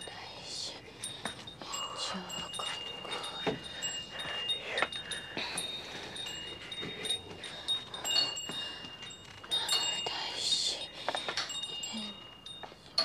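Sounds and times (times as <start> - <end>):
small bells tinkling: 0.0 - 13.0.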